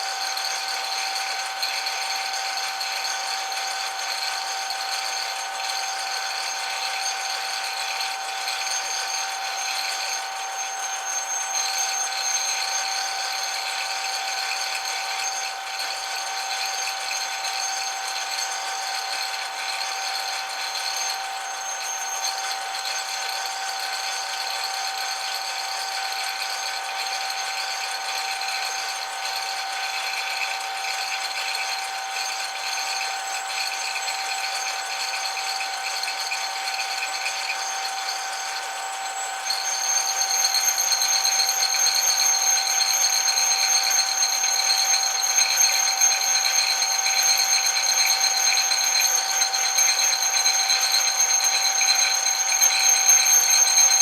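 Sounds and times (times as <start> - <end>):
metal lathe whining: 0.0 - 54.0.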